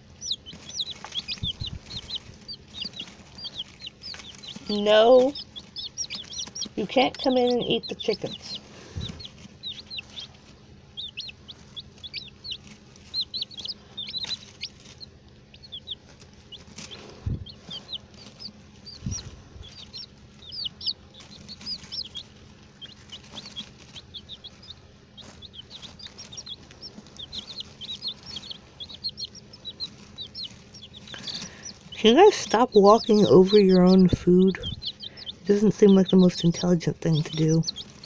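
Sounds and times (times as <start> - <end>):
dull low bumps: 0.0 - 10.5, 15.6 - 38.0
baby chicks peeping: 0.0 - 38.0.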